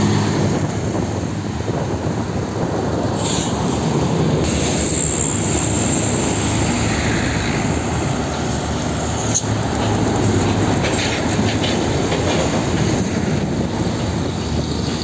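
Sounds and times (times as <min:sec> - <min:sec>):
heavy trucks passing: 0:00.0 - 0:15.0.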